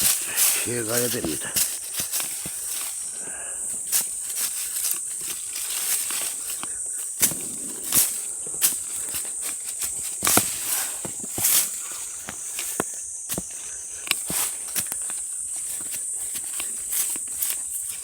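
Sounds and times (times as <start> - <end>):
digging scraping in stony soil: 0.0 - 18.0.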